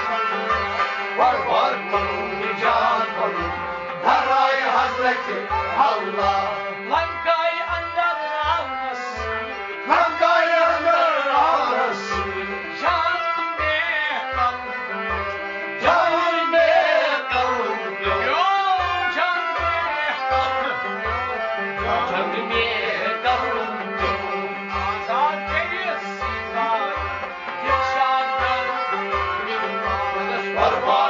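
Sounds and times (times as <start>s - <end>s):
man singing ornamented phrases: 0.0s - 14.7s, 15.8s - 20.9s, 21.8s - 31.0s
held instrumental tones: 0.0s - 31.0s.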